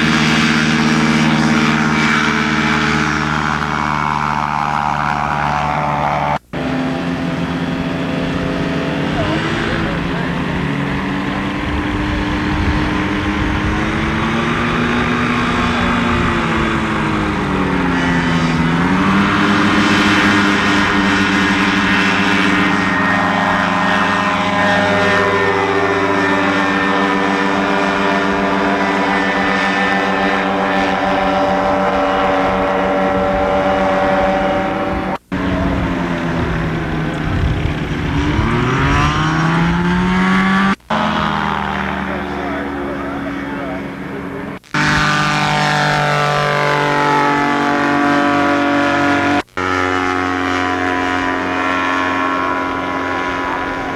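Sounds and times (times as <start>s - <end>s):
ultralight aircraft engines buzzing: 0.0s - 53.9s.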